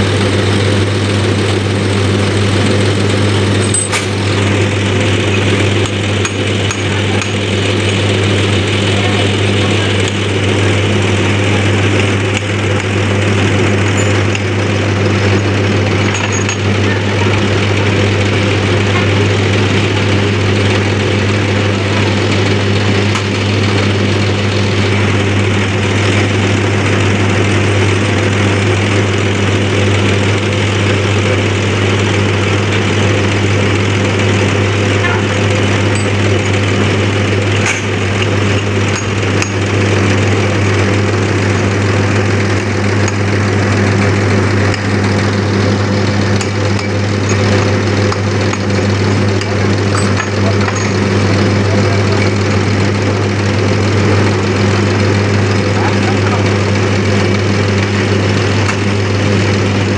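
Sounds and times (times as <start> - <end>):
test bench machine humming: 0.0 - 59.9.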